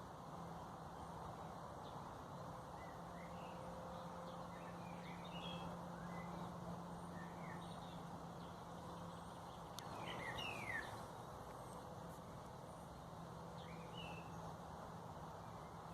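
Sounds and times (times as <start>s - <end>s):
low constant hum: 0.0s - 15.9s.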